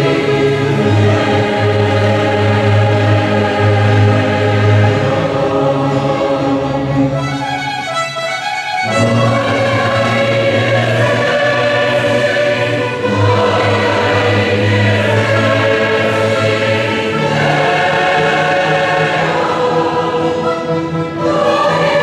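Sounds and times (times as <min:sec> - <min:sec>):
mixed choir singing: 0:00.0 - 0:07.8, 0:08.8 - 0:22.0
orchestra playing: 0:00.0 - 0:22.0.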